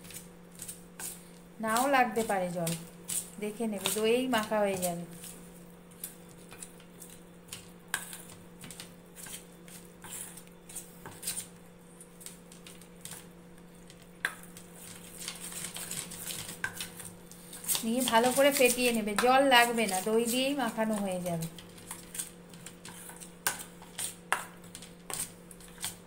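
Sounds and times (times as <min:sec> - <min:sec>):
spoon stirring batter in metal bowl: 0:00.0 - 0:26.0.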